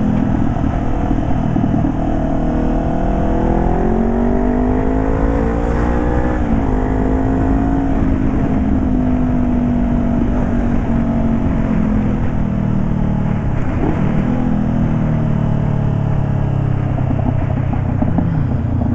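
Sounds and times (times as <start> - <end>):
motorcycle engine accelerating: 0.0 - 18.9
wind buffeting microphone: 0.0 - 18.9.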